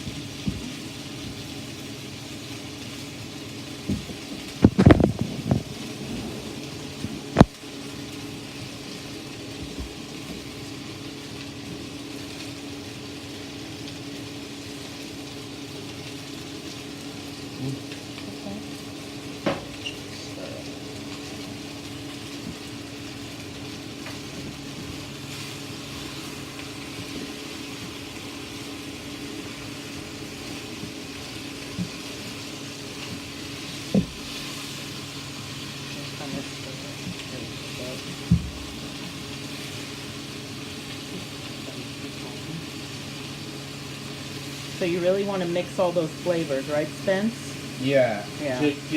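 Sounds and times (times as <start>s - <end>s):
food sizzling in a pan: 0.0s - 48.9s.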